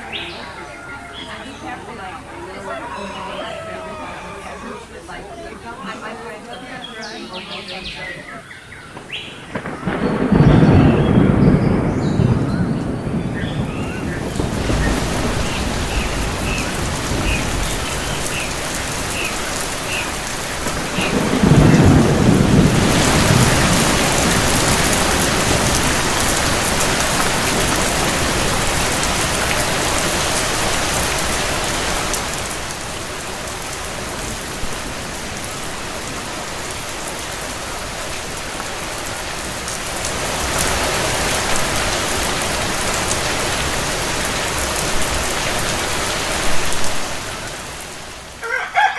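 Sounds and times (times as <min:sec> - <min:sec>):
steady rain: 0:00.0 - 0:48.9
thunder rumble: 0:08.3 - 0:48.4.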